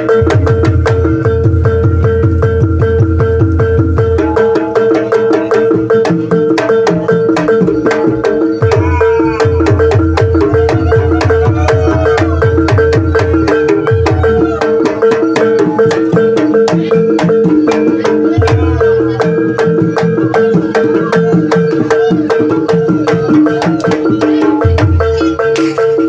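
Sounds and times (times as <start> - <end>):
metal percussion melody: 0.0 - 26.0.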